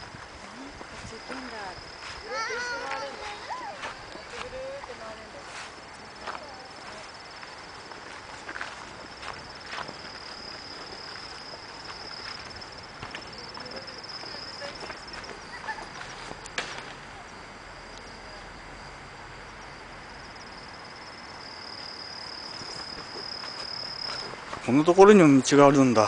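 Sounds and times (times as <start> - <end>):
faint ticks and crunches: 0.0 - 17.0, 21.6 - 26.0
cricket trilling: 0.0 - 26.0.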